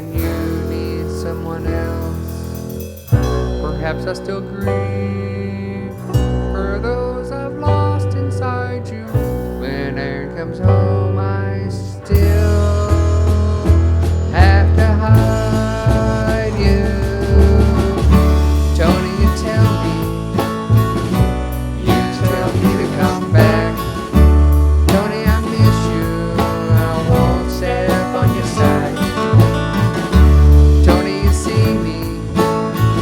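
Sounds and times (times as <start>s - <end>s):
band playing country music: 0.0s - 33.0s.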